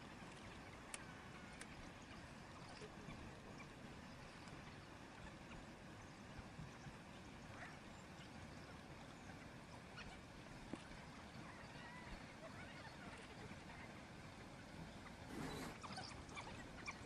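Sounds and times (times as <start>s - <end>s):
faint chirps: 0.0s - 17.0s
outdoor background hiss and rumble: 0.0s - 17.0s.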